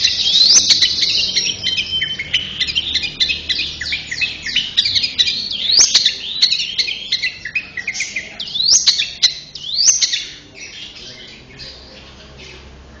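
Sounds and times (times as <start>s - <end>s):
bird singing chirps and calls: 0.0s - 13.0s.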